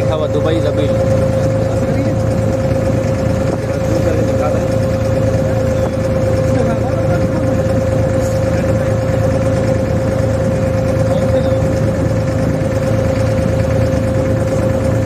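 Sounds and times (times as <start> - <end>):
boat diesel engine droning: 0.0 - 15.0
constant engine whine: 0.0 - 15.0.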